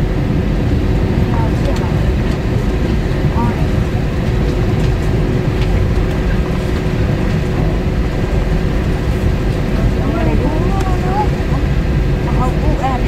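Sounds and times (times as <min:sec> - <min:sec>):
airliner cabin rumble: 0:00.0 - 0:13.0
faint constant tones: 0:00.0 - 0:13.0.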